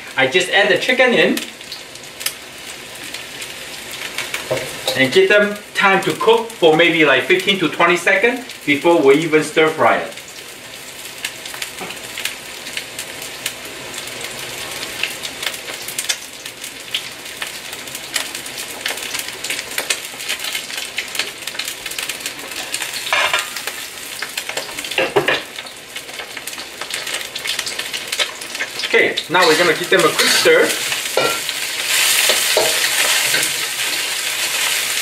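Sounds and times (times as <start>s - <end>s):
meat sizzling in oil: 0.0s - 35.0s.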